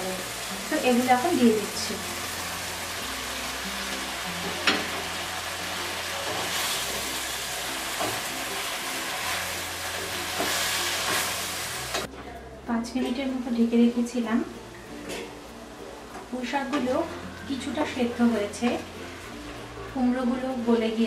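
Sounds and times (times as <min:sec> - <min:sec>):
vegetables sizzling in oil: 0:00.0 - 0:12.1, 0:12.8 - 0:21.0
soft background music: 0:00.0 - 0:21.0.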